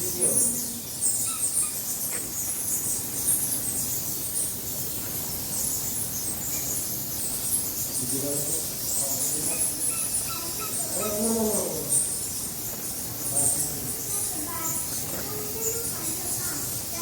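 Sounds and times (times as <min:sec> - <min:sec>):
bats squeaking: 0:00.0 - 0:17.0.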